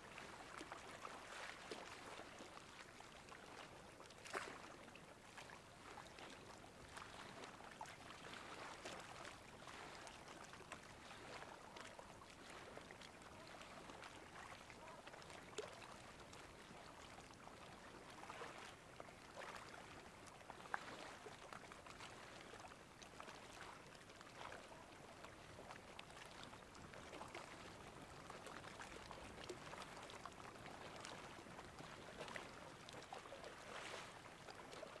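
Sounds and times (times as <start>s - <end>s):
sea water lapping: 0.1s - 35.0s.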